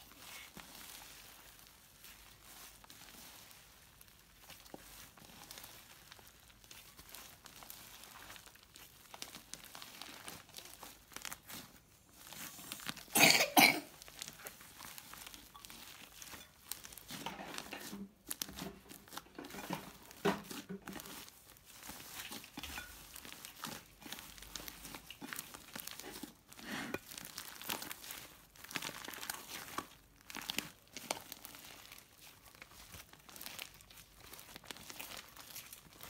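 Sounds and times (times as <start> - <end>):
slime squelching and crackling: 0.0 - 36.0.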